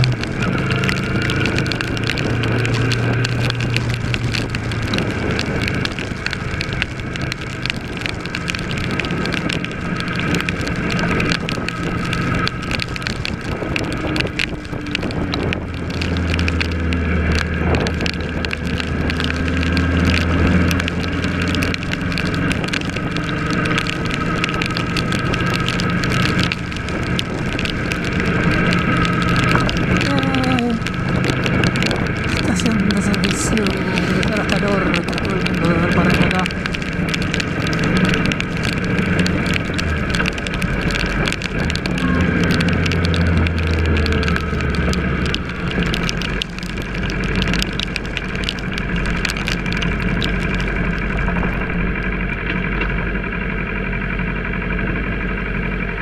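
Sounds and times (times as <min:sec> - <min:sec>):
wind noise on microphone: 0:00.0 - 0:53.7.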